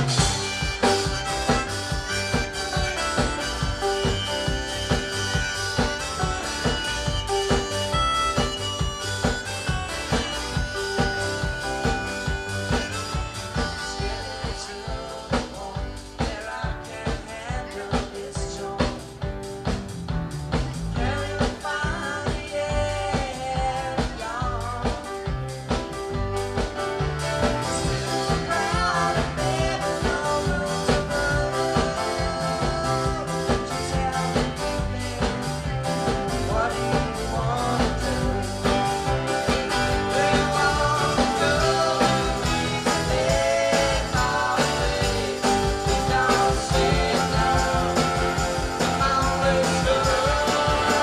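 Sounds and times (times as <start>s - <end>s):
person singing: 0.0s - 19.4s, 20.8s - 25.6s, 27.2s - 51.0s
live rock band playing: 0.0s - 51.0s.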